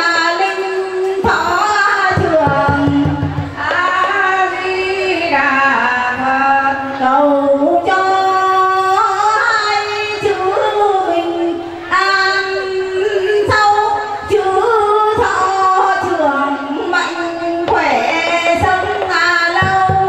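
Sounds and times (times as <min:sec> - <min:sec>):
woman singing a devotional chant: 0:00.0 - 0:20.0.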